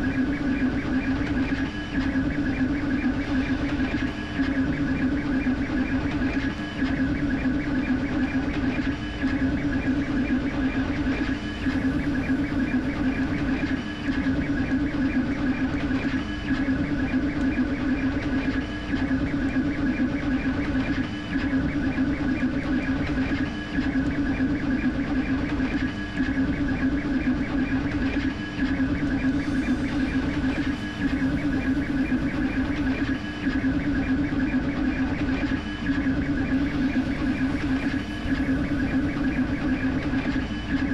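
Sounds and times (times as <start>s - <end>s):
three d printer printing: 0.0s - 40.9s.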